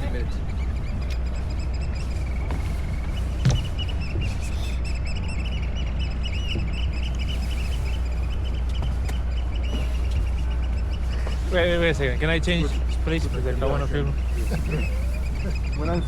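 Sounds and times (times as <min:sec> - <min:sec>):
boat engine droning: 0:00.0 - 0:16.0
high chirping bird calls: 0:00.0 - 0:16.0.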